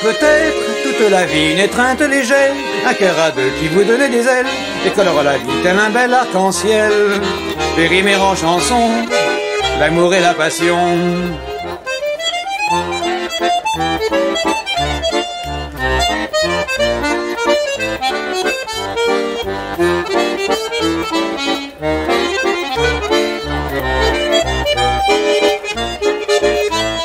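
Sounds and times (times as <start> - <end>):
accordion melody: 0.0 - 27.0
bass accompaniment: 0.0 - 27.0.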